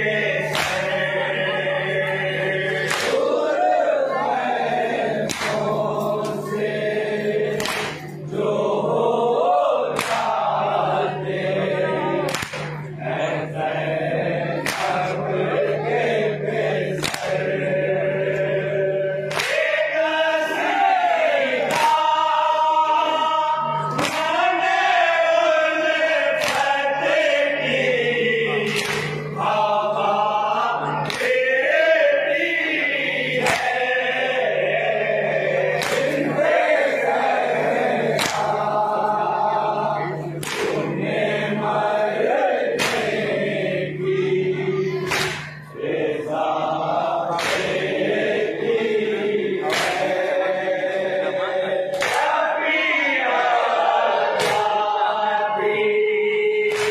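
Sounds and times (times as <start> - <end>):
men chanting in unison: 0.0 - 56.9.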